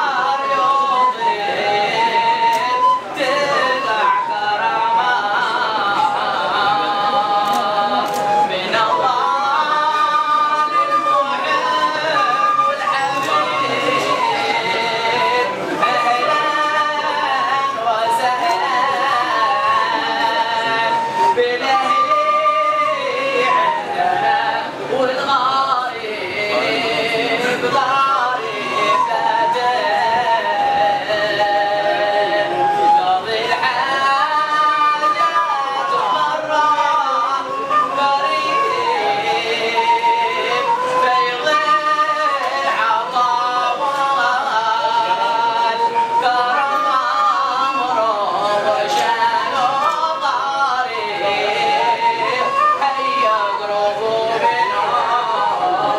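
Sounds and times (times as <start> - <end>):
man singing religious chant: 0.0 - 55.9.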